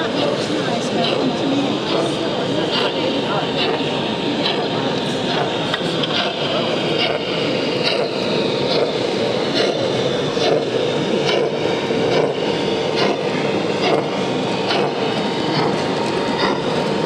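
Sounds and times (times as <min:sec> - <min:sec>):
exhibition hall crowd din: 0:00.0 - 0:17.0
model train clicking: 0:00.0 - 0:17.0.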